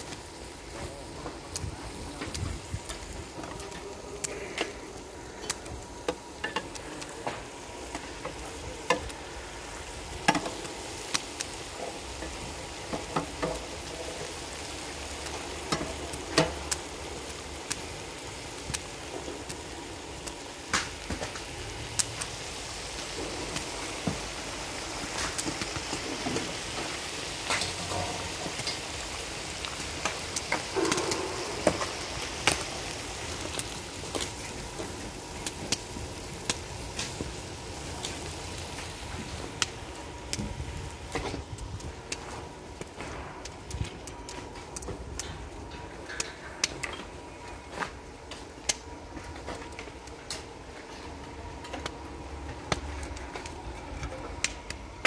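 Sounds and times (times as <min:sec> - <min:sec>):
food sizzling: 0:00.0 - 0:44.2.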